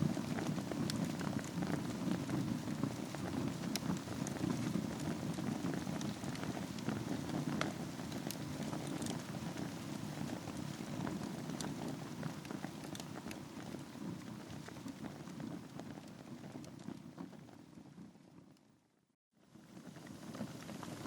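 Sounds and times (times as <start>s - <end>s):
wood crackling and popping: 0.0s - 18.3s
wood fire burning: 0.0s - 18.7s, 19.5s - 21.0s.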